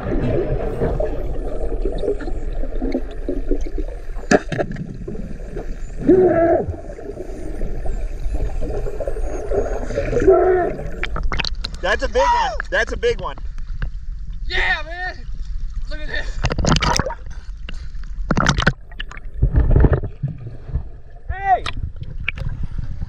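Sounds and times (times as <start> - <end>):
underwater rumble with gurgling: 0.0 - 11.8, 15.2 - 23.0.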